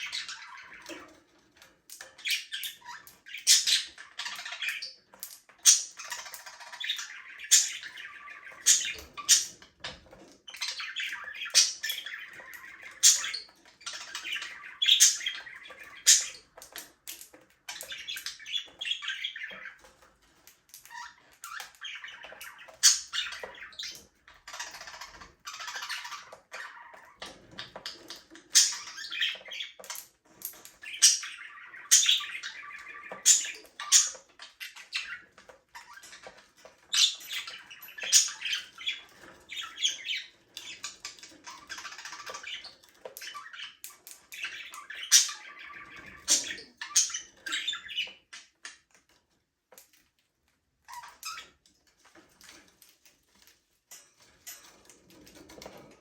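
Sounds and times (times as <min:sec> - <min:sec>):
budgerigars chirping: 0:00.0 - 0:48.8.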